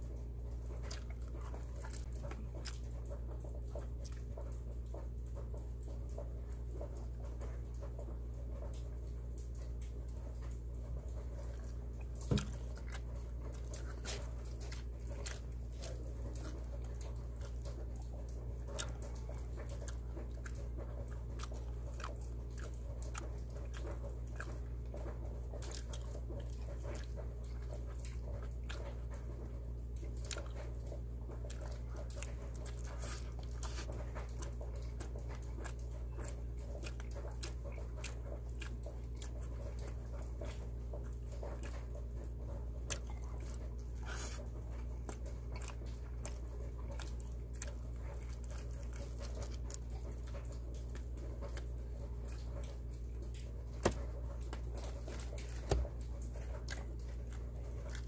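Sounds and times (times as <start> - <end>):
chewing pizza: 0.0 - 58.0.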